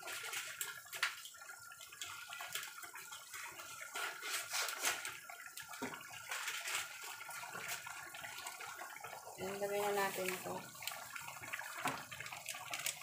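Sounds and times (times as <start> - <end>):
stew bubbling and popping: 0.0 - 13.0.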